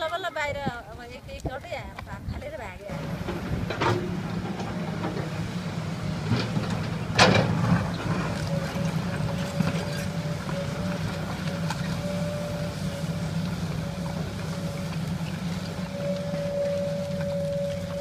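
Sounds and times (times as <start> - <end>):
excavator diesel engine running: 2.4 - 18.0
thin steady whine: 2.9 - 18.0.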